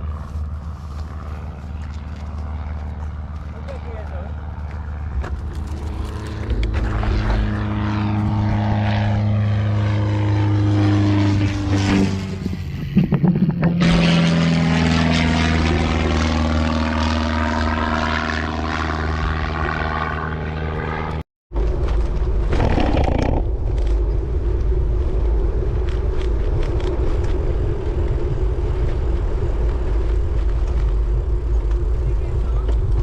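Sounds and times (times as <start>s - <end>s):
engine drone passing: 0.0s - 33.0s.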